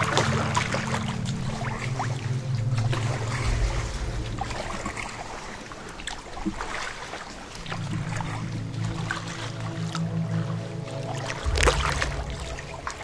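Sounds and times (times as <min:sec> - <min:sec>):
paddle splashing water: 0:00.0 - 0:13.0.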